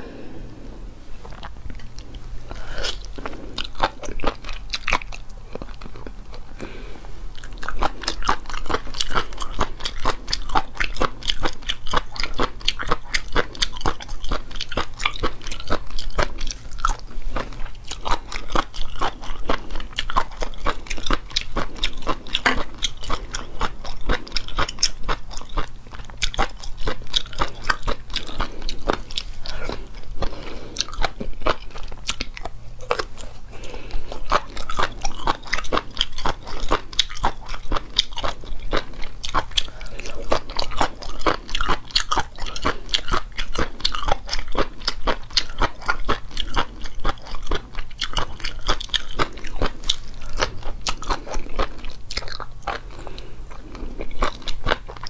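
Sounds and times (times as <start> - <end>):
person crunching crunchy food: 1.2 - 55.0.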